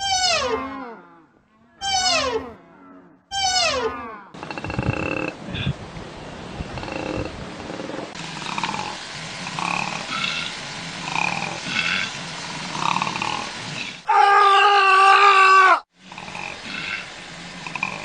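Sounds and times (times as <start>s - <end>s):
loud long animal call: 0.0s - 5.8s, 6.8s - 13.5s, 14.1s - 18.0s.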